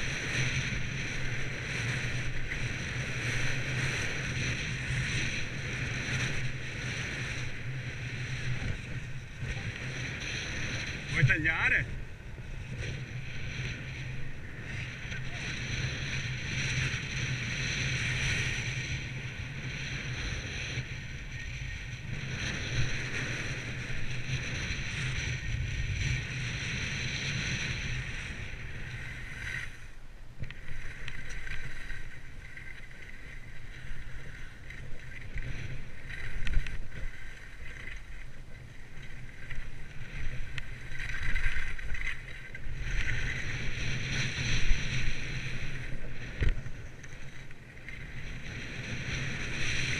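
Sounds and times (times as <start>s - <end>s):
skis scraping over snow: 0.0s - 49.9s
wind noise on microphone: 0.0s - 49.9s.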